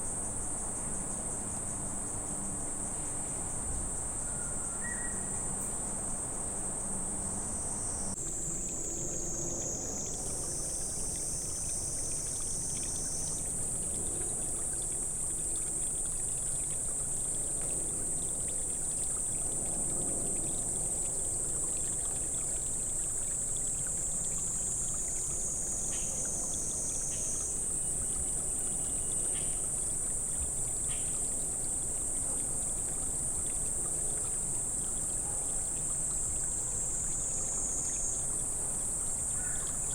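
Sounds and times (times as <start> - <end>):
high-pitched insect chorus: 0.1 - 39.9.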